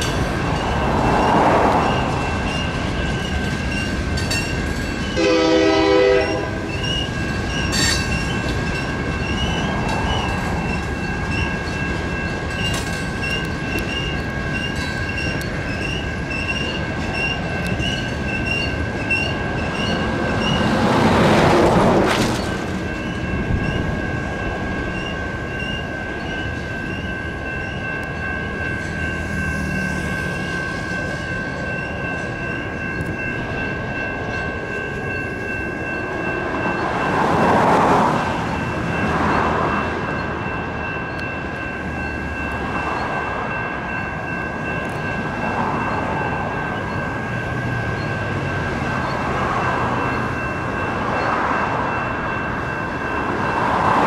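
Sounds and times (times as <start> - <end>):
crossing signal bells ringing: 0.0 - 54.0
freight train rumbling past: 0.0 - 54.0.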